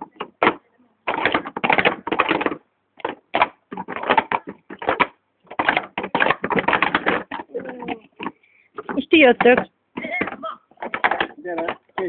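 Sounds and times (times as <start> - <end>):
plastic cups clattering on a table: 0.1 - 12.0.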